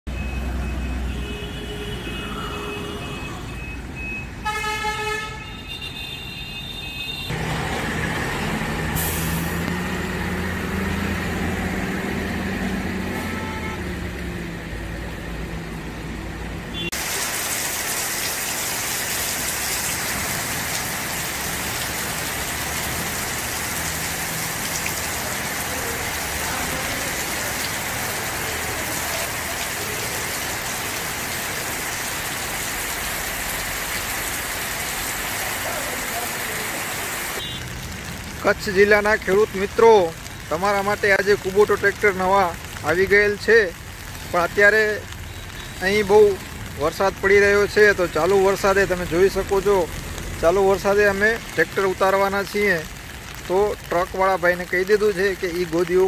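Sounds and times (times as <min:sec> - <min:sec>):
heavy rain falling: 0:07.3 - 0:56.0.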